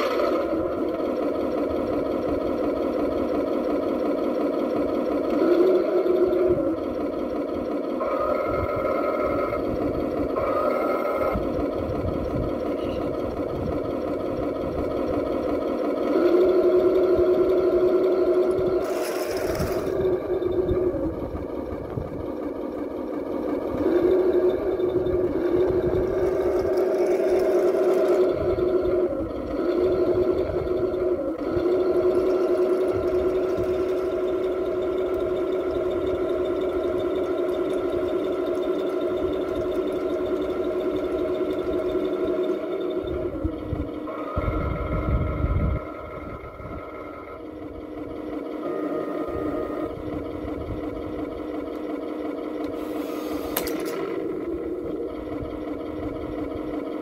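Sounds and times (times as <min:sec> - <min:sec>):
toy tank motor hum: 0:00.0 - 0:57.0.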